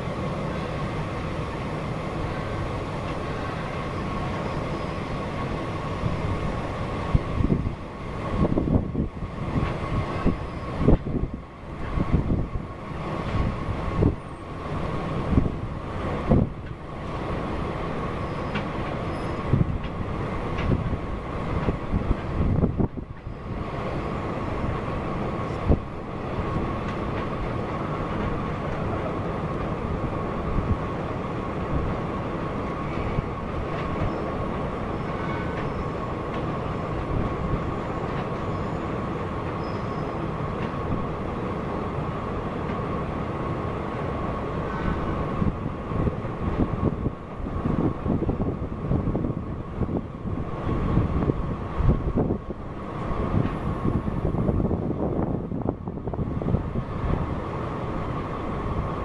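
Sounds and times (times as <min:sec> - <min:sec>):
freight train rumbling on bridge: 0:00.0 - 0:59.0
wind gusts on microphone: 0:00.0 - 0:59.0.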